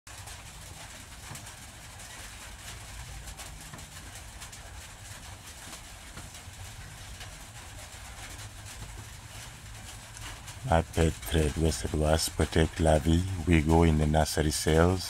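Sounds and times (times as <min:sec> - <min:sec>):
rain falling on a roof: 0:00.1 - 0:15.0.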